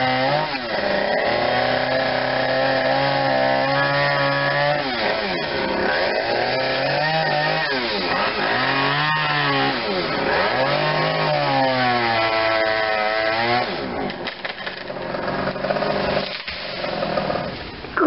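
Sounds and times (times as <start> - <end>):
chainsaw revving: 0.0 - 17.6.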